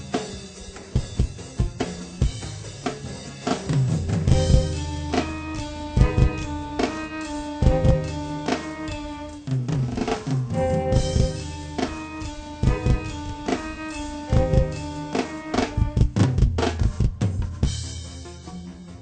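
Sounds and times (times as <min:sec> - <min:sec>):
drum kit playing: 0:00.0 - 0:18.5
bass and chord notes: 0:01.3 - 0:09.5, 0:10.4 - 0:19.0.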